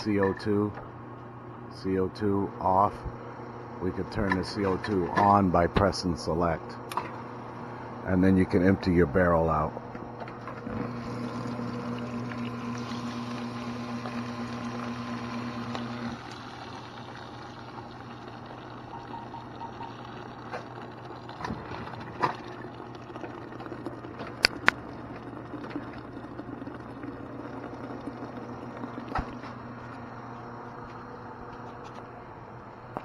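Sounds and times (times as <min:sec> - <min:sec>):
frozen-beverage machine humming: 0:00.0 - 0:33.0.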